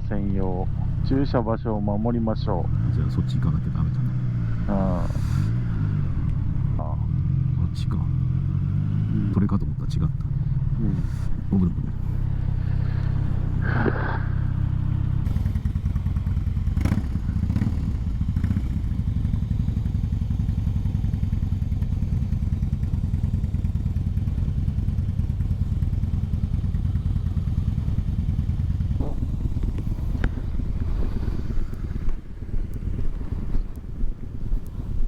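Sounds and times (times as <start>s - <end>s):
motorcycle engine rumbling: 0.0s - 35.0s.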